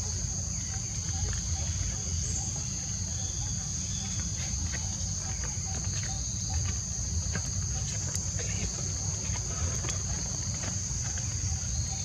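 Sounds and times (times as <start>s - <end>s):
insects droning high-pitched: 0.0s - 12.0s.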